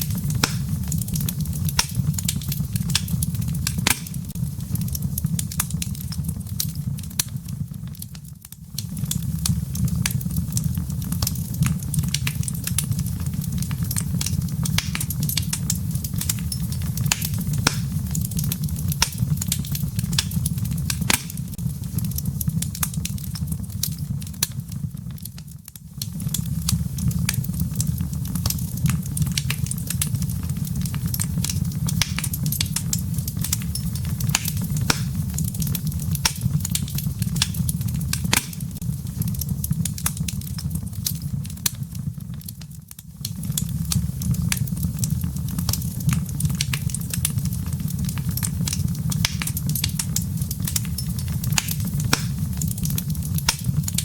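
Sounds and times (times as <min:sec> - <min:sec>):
firewood crackling and popping: 0:00.0 - 0:54.0
low rumble of flames: 0:00.0 - 0:54.0.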